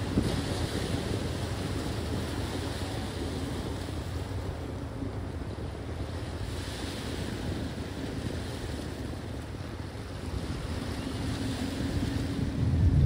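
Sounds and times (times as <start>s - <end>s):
waves on rocks: 0.0s - 13.0s
wind buffeting microphone: 0.0s - 13.0s.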